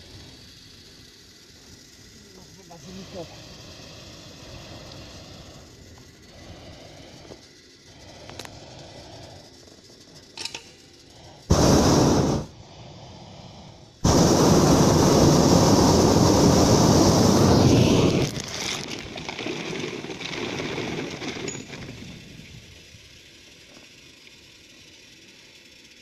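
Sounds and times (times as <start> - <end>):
propane burner blasts: 0.0 - 26.0.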